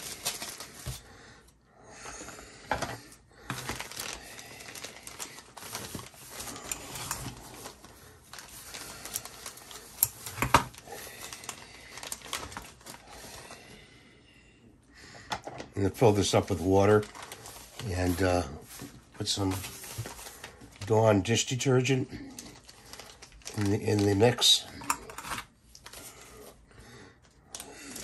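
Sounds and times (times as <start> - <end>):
plastic bags crinkling: 0.0 - 1.1, 3.4 - 13.8, 15.7 - 26.6, 27.2 - 28.0.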